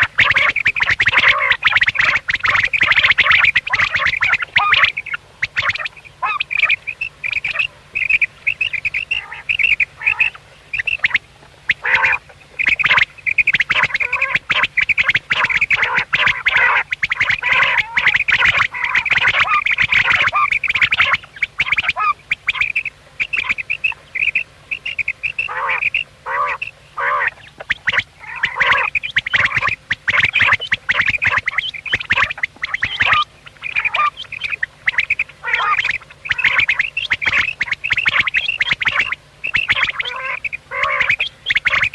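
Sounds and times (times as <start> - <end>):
quails calling: 0.0 - 41.9.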